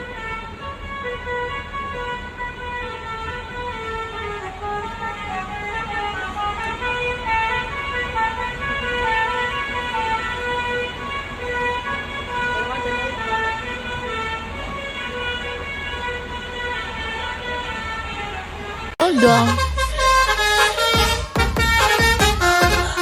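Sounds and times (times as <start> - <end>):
musical bus horn melody: 0.0 - 23.0.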